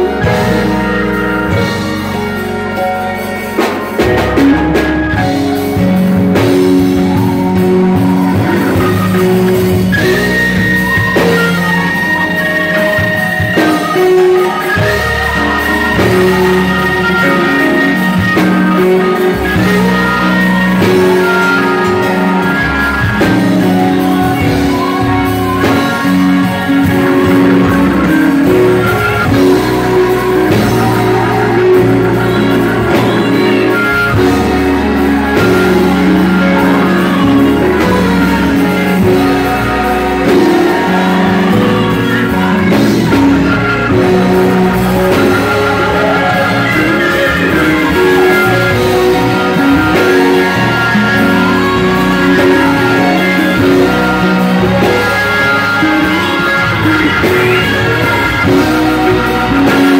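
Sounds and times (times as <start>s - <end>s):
gospel organ chords: 0.0s - 59.9s
singers: 0.0s - 59.9s.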